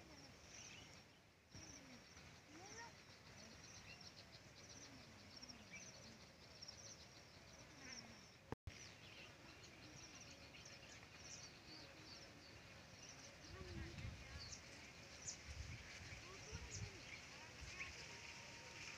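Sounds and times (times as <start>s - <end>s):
low background hiss: 0.0s - 18.9s.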